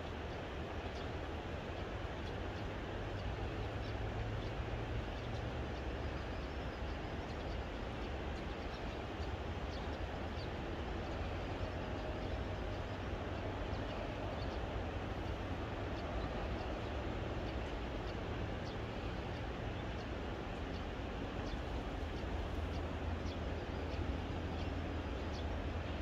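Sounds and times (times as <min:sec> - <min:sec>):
distant traffic rumble: 0:00.0 - 0:26.0.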